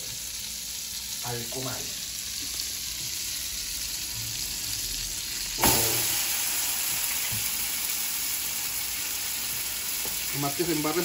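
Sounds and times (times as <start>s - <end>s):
butter sizzling in a frying pan: 0.0s - 11.0s.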